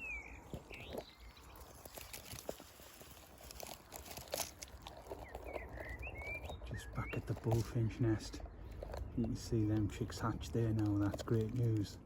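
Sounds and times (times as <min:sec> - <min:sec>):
twigs crackling and snapping: 0:00.0 - 0:12.0.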